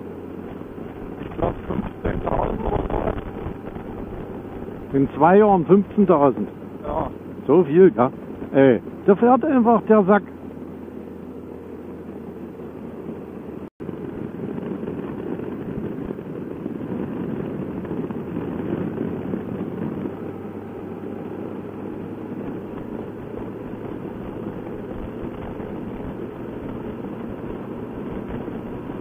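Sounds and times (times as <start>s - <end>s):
motorcycle engine rumble: 0.0s - 29.0s
wind rush: 0.2s - 9.0s, 13.8s - 29.0s.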